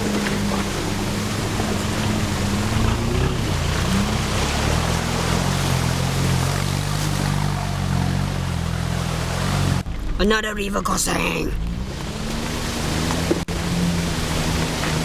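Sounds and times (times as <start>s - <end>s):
vehicle engine under load: 0.0s - 10.2s, 11.6s - 15.0s
water rushing and splashing: 0.0s - 15.0s.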